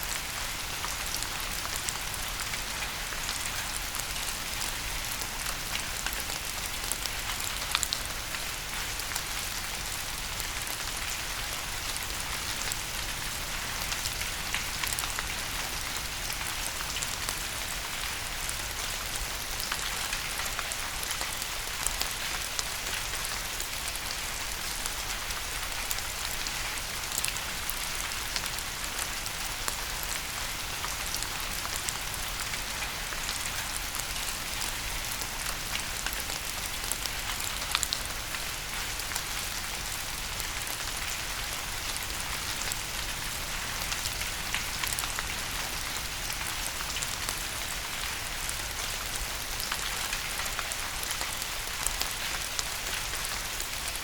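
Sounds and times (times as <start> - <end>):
steady rain hiss: 0.0 - 54.0
raindrops pattering: 0.1 - 54.0.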